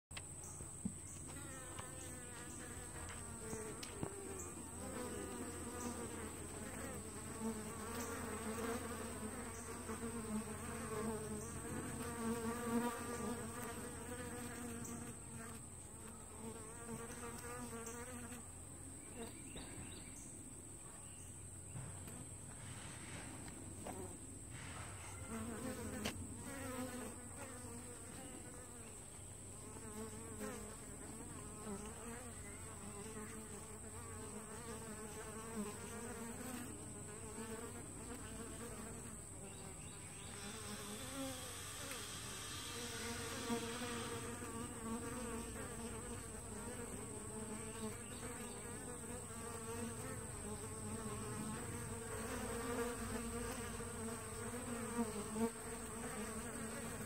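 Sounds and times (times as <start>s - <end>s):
honeybees buzzing: 0.2s - 19.7s, 21.7s - 57.0s.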